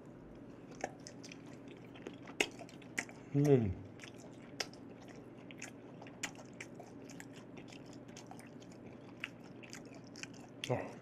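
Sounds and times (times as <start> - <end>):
faint steady hum: 0.0 - 11.0
wet chewing mouth clicks: 0.7 - 11.0.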